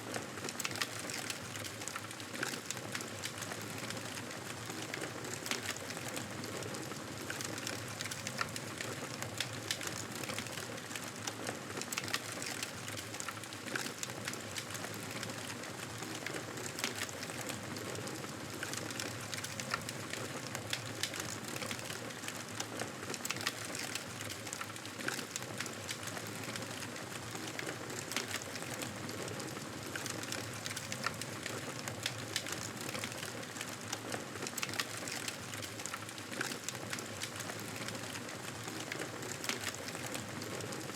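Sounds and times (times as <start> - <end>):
wood fire crackling and popping: 0.1 - 40.9.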